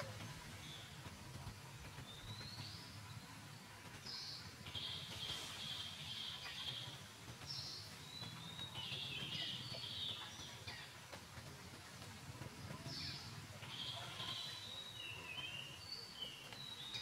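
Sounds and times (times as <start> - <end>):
birds chirping: 0.0 - 17.0
low background rumble: 0.0 - 17.0.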